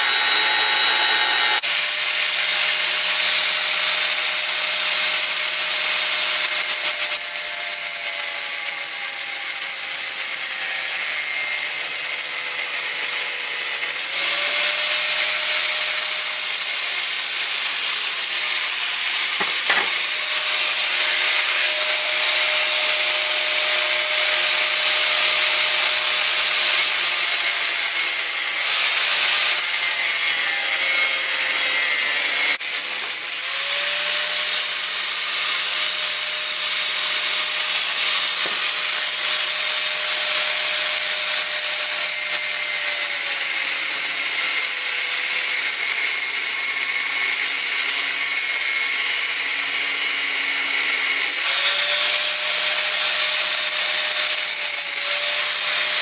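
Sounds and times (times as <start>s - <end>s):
hissing metal cut: 0.0s - 56.0s
power tool motor whine: 0.0s - 56.0s.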